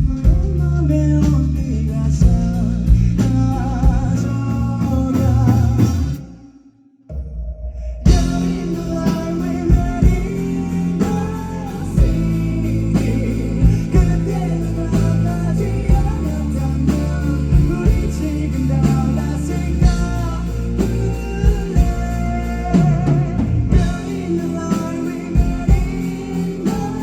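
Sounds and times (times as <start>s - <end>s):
bass guitar: 0.0s - 6.3s, 8.1s - 27.0s
drums: 0.0s - 6.5s, 7.1s - 27.0s.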